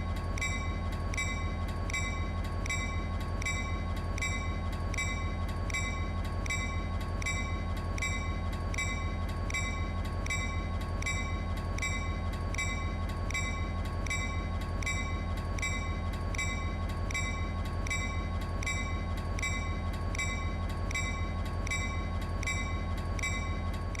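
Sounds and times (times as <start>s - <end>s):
constant low hum: 0.0s - 24.0s
thin steady tone: 0.0s - 24.0s
railroad crossing bell ringing: 0.1s - 23.8s.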